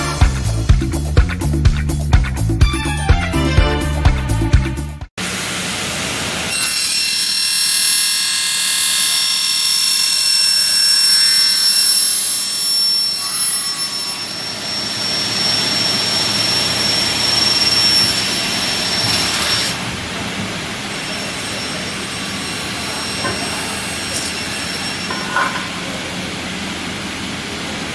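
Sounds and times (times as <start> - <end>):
circular saw high whine: 5.2 - 27.9.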